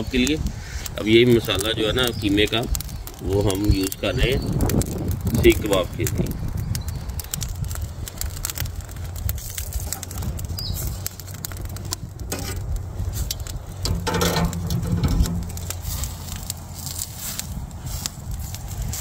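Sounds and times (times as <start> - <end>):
meat crackling and sizzling: 0.0 - 19.0
wind on microphone: 0.0 - 19.0.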